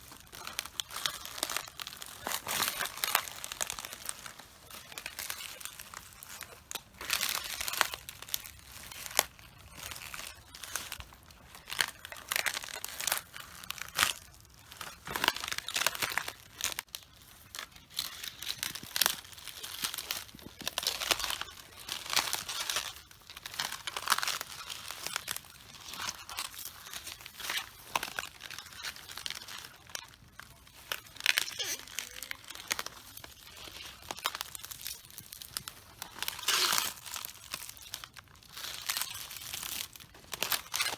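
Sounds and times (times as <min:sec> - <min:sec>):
feet crushing cabbages: 0:00.0 - 0:40.9.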